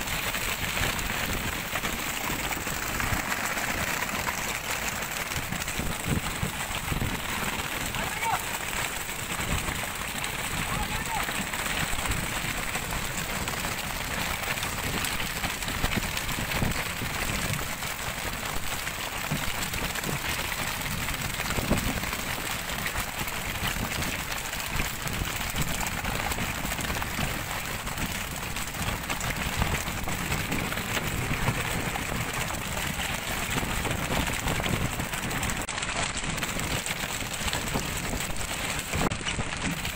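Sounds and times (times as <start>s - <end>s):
water rushing: 0.0s - 39.9s
wind: 0.0s - 39.9s.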